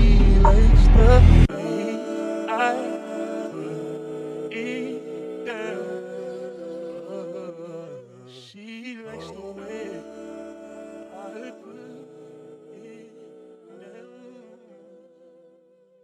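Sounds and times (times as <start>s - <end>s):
wordless harmony vocals: 0.0s - 15.8s.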